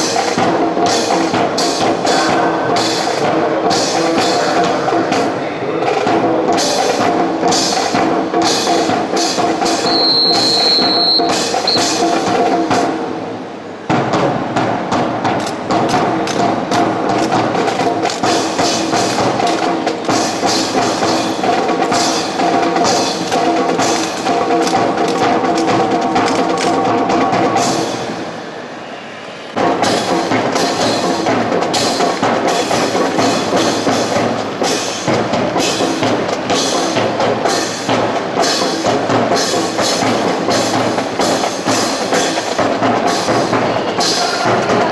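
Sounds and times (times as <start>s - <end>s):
music with drum beat: 0.0s - 28.2s, 29.6s - 44.9s.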